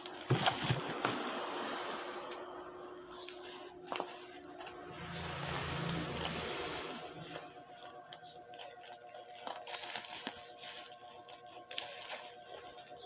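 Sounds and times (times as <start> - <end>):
handling rustling and scraping: 0.0 - 13.0.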